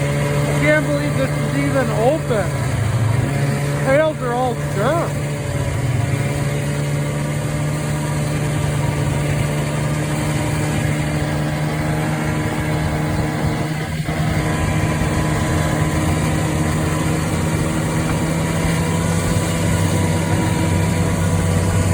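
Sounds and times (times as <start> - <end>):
snowmobile two-stroke engine running: 0.0 - 21.9.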